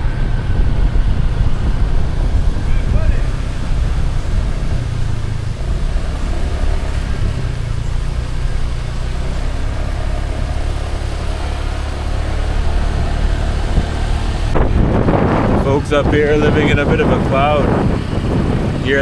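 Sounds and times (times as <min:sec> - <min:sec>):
road noise: 0:00.0 - 0:19.0
vehicle engine rumble: 0:00.0 - 0:19.0
wind on microphone: 0:00.0 - 0:19.0.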